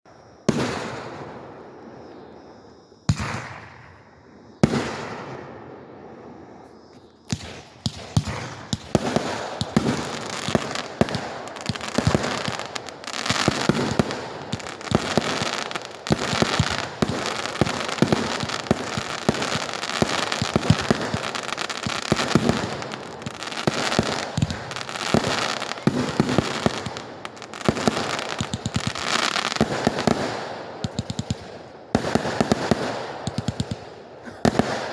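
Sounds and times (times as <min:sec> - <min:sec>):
fireworks booming and crackling: 0:00.3 - 0:34.9.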